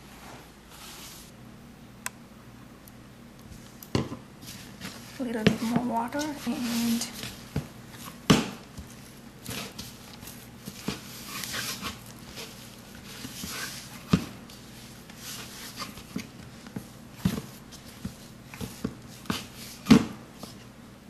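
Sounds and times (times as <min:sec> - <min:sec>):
dough squishing and slapping: 0:03.4 - 0:20.8.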